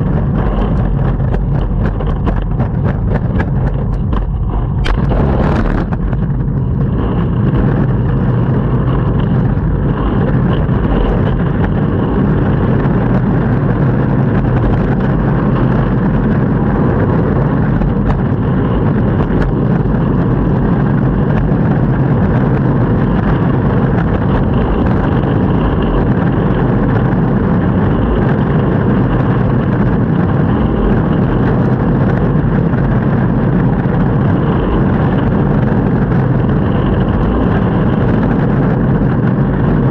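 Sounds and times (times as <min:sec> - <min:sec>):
longboard wheels rumbling on pavement: 0:00.0 - 0:39.9.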